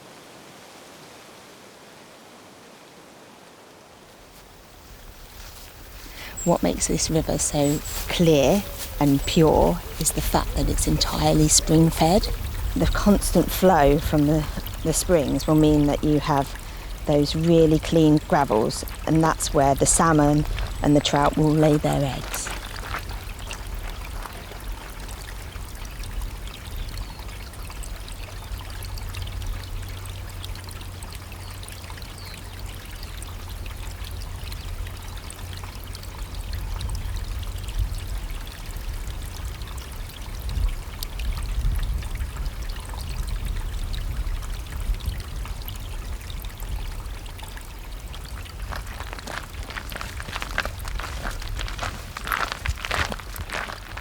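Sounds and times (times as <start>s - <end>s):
stream flowing over gravel: 3.2s - 54.0s.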